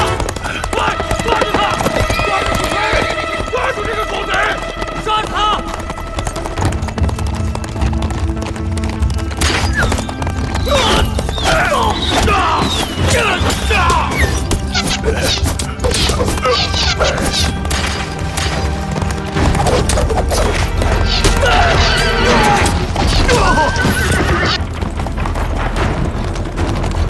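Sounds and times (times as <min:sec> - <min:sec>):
dramatic orchestral score with drone: 0:00.0 - 0:27.0.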